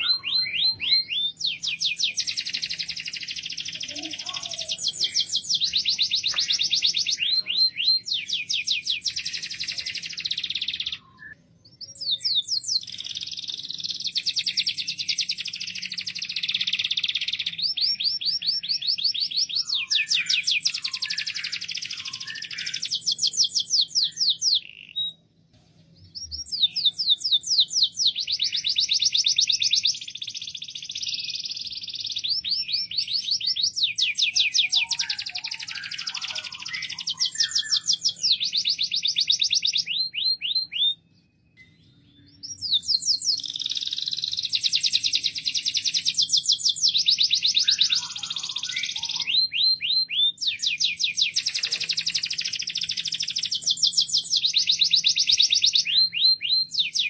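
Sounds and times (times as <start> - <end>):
canary singing trills: 0.0 - 25.3, 26.1 - 57.0.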